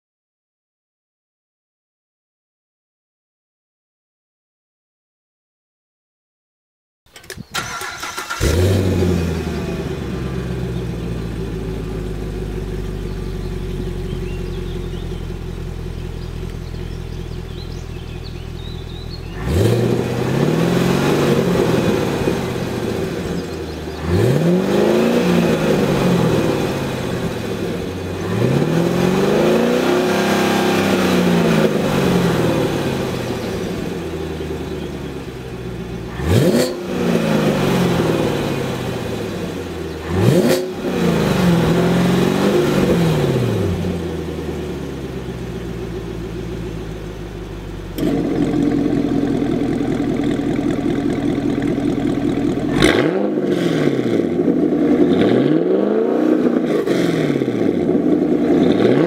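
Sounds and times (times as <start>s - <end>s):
car engine revving and idling: 7.6s - 59.0s.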